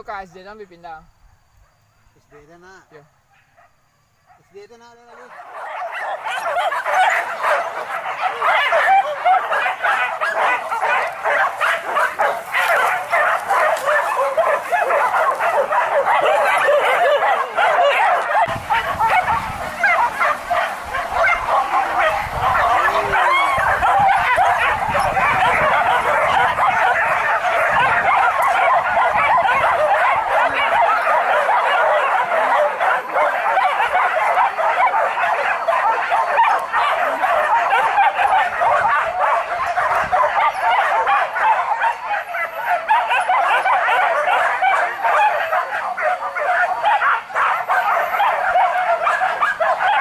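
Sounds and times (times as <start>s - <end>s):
dogs yelping and barking: 5.1s - 50.0s.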